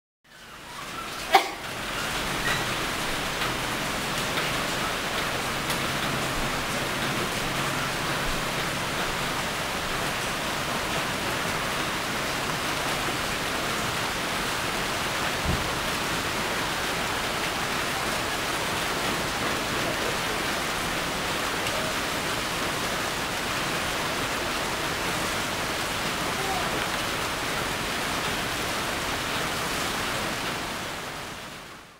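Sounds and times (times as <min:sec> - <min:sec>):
steady rain falling: 0:00.3 - 0:31.9.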